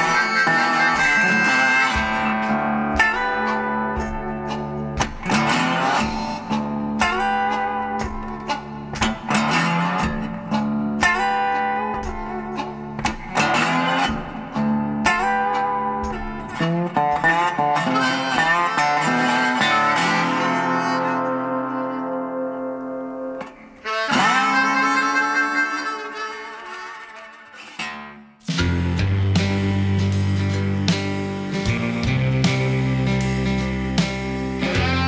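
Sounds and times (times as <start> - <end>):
plucked guitar music: 0.0 - 35.0.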